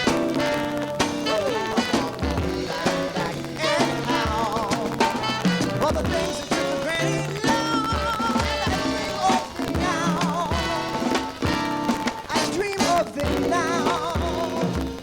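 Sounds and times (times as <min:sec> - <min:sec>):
accordion-led band playing: 0:00.0 - 0:15.0
steady drum beat: 0:00.0 - 0:15.0.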